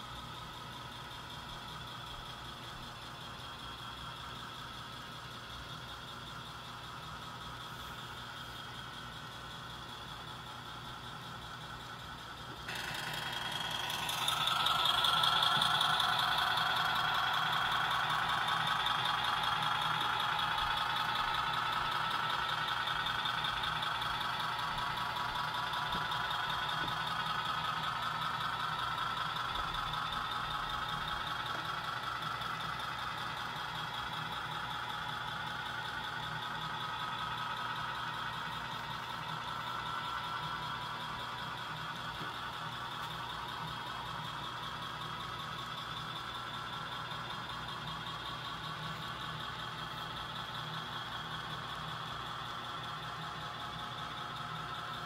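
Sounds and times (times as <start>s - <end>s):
model train running: 0.0s - 55.0s.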